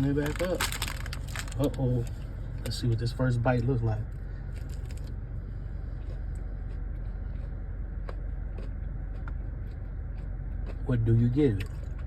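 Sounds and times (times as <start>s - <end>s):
car interior engine rumble: 0.0s - 12.0s.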